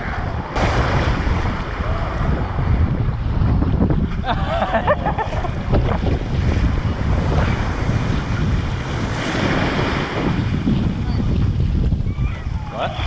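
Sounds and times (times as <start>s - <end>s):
small waves washing on beach: 0.0s - 13.0s
wind rumble on microphone: 0.0s - 13.0s.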